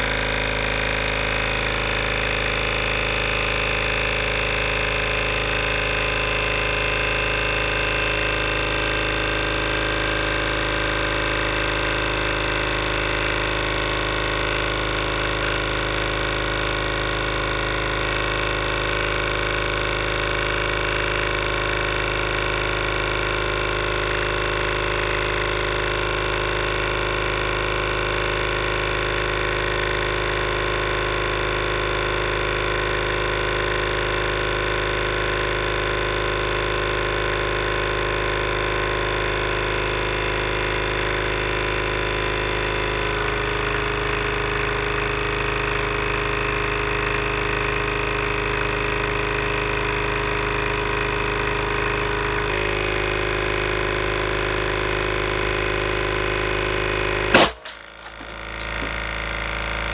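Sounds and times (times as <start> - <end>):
air compressor running: 0.0 - 59.9.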